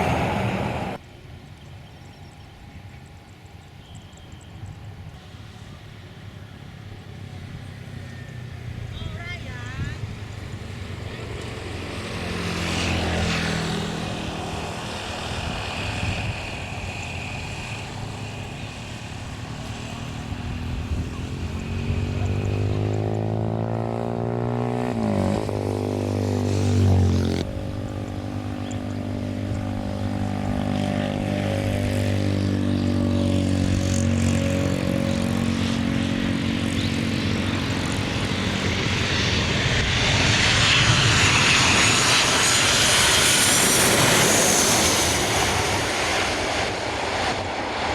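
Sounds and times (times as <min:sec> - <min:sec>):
airliner engines droning: 0:00.0 - 0:47.9.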